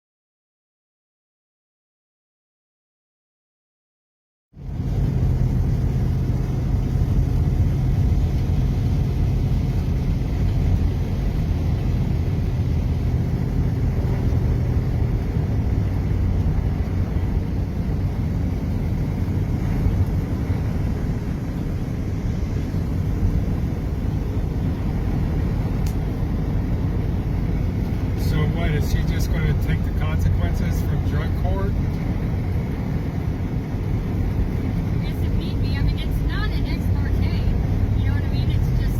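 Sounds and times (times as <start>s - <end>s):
moving road vehicle rumble: 4.5s - 38.9s
low hum: 4.6s - 38.9s.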